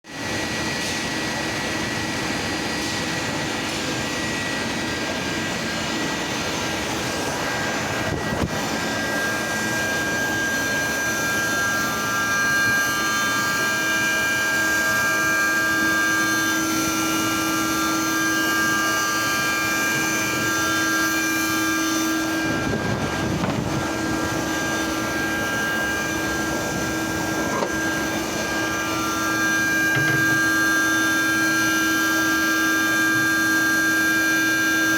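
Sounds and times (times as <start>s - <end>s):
machine mechanical hum: 0.1s - 34.9s
high whining tones: 4.0s - 34.9s.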